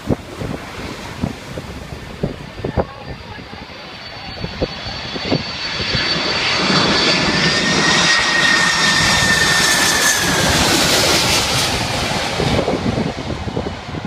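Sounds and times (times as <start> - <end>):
high jet engine whine: 0.0 - 14.0
jet airliner roar passing overhead: 0.0 - 14.0.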